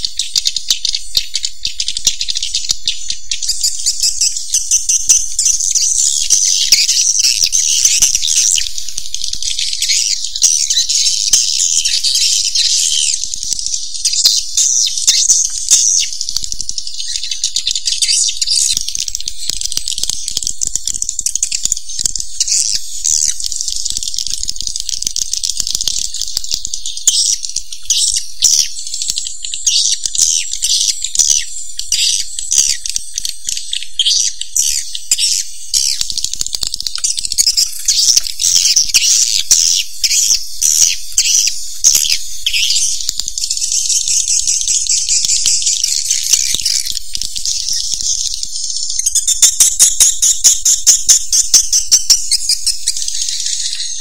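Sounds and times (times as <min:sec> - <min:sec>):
swiftlets twittering: 0:03.4 - 0:54.0.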